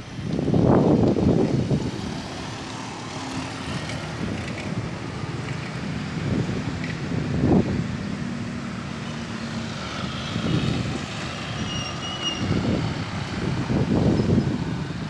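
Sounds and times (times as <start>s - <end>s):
light road traffic: 0.0s - 15.0s
motorcycles passing: 0.0s - 15.0s.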